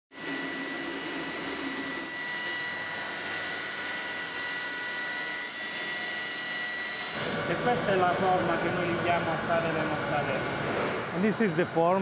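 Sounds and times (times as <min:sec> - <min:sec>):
high-pitched machine whine: 0:00.2 - 0:12.0.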